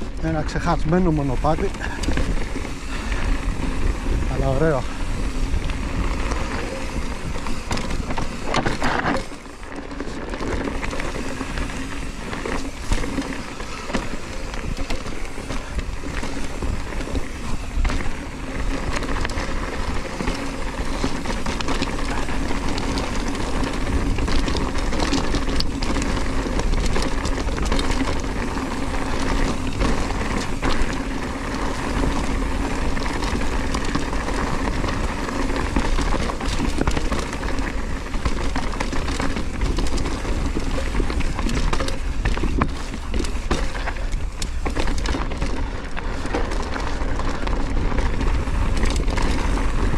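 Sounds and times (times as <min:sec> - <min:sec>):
bike rattles and knocks: 0:00.0 - 0:49.9
bike tyres rolling on dirt: 0:00.0 - 0:49.9.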